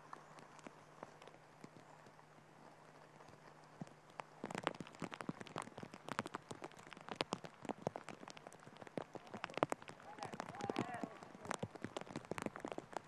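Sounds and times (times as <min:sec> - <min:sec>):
heavy rain falling: 0:00.0 - 0:13.0
raindrops pattering close by: 0:00.0 - 0:13.0.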